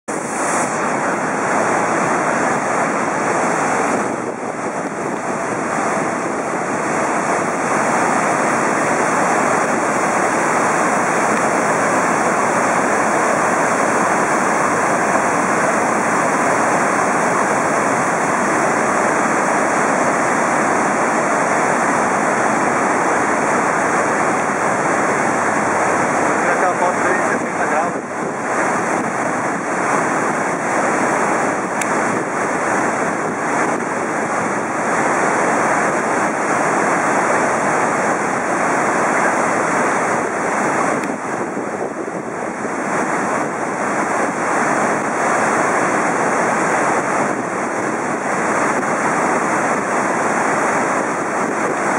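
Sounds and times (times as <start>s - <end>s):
rushing whitewater: 0.1s - 51.9s.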